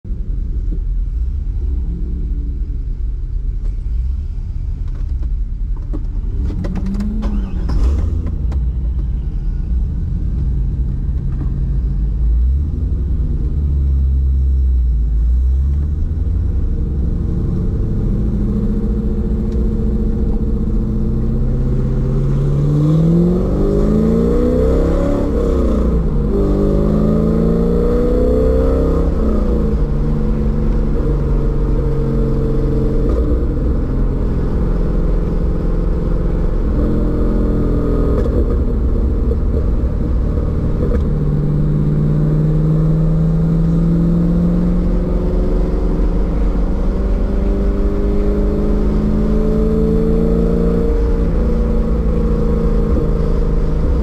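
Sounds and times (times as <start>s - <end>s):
car engine idling and revving: 0.1s - 54.0s.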